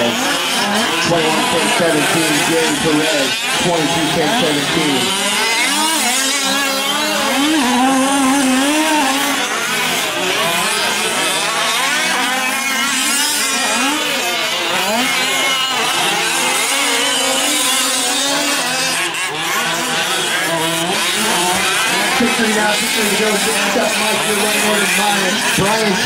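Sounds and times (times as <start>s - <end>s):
rc truck engines revving: 0.0s - 26.0s.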